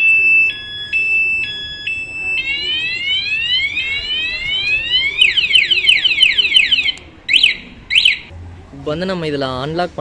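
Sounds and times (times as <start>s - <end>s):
motorcycle alarm siren: 0.0s - 8.3s.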